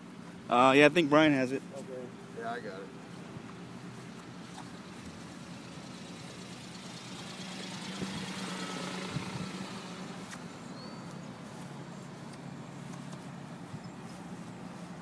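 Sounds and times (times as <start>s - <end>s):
model aircraft engine humming: 1.9s - 15.0s.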